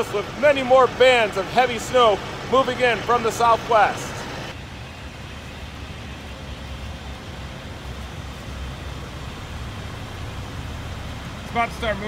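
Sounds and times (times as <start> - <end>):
idling vehicle engines rumbling: 0.0 - 12.0.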